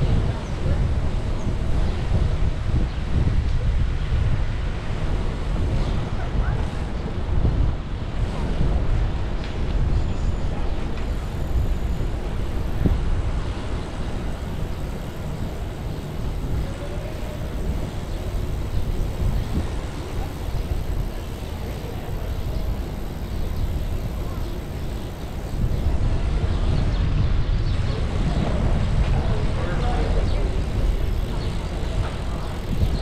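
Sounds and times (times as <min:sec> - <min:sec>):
tyre noise on road: 0:00.0 - 0:33.0
wind rushing over microphone: 0:00.0 - 0:33.0.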